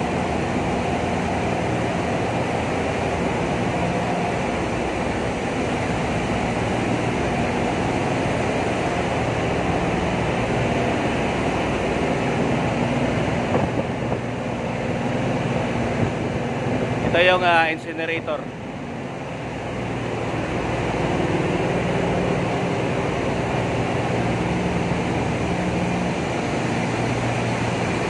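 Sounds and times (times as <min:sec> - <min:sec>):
engine room machinery roar: 0:00.0 - 0:28.0
faint steady hum: 0:00.0 - 0:28.0.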